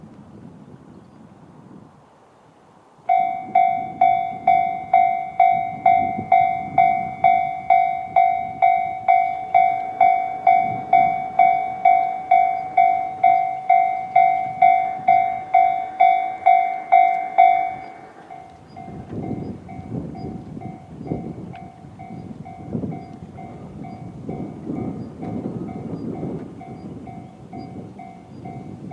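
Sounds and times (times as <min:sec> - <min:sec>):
level-crossing alarm dinging: 0:03.1 - 0:25.9, 0:26.6 - 0:28.9.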